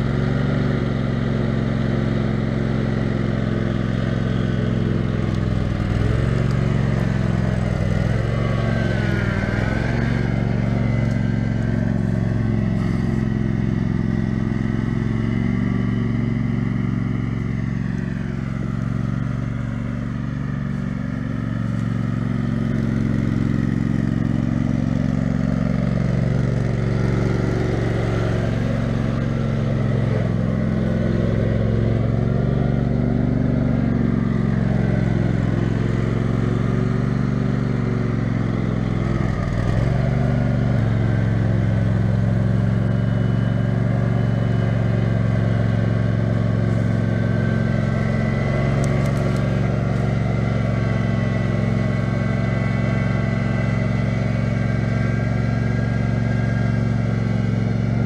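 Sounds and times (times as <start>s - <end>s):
riding lawn mower engine running: 0.0s - 58.0s.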